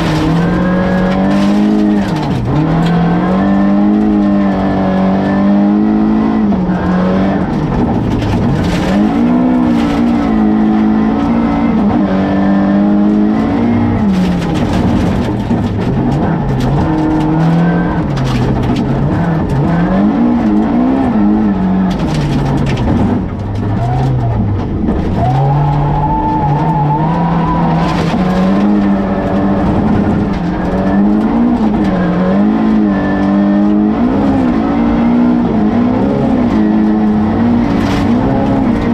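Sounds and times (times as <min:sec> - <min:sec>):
gravel striking car: 0:00.0 - 0:38.9
rally car engine revving: 0:00.0 - 0:38.9.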